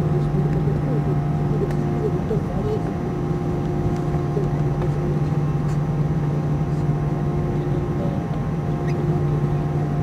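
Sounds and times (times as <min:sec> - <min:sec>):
aircraft cabin engine hum and whine: 0:00.0 - 0:10.0.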